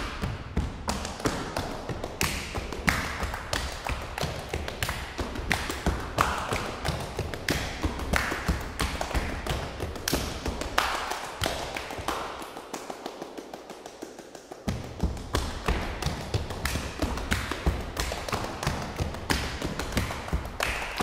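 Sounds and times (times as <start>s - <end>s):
hand claps and body slaps: 0.0s - 21.0s.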